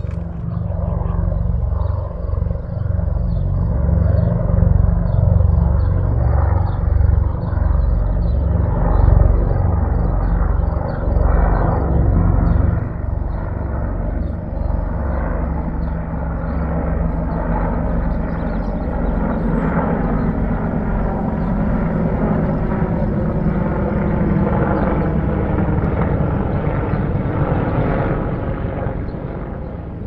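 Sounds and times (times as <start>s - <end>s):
helicopter rotors droning: 0.0s - 30.0s.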